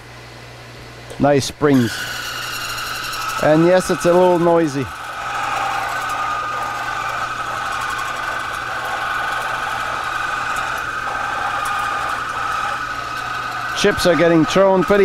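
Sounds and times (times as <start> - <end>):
metal lathe cutting steel: 1.8 - 15.0.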